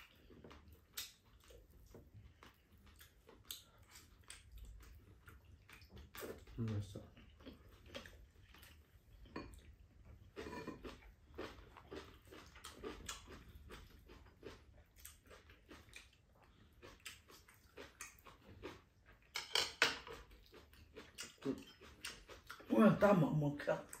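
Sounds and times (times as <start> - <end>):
chewing and mouth sounds: 0.0 - 24.0.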